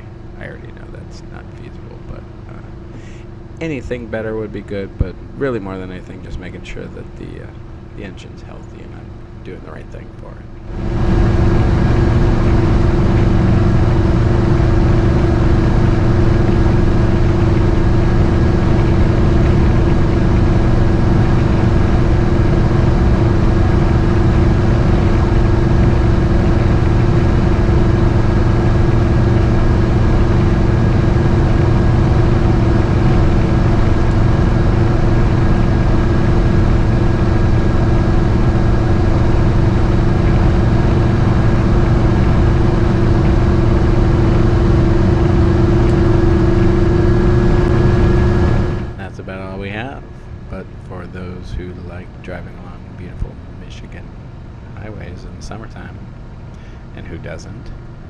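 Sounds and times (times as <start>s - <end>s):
vehicle cabin drone at speed: 0.0s - 58.0s.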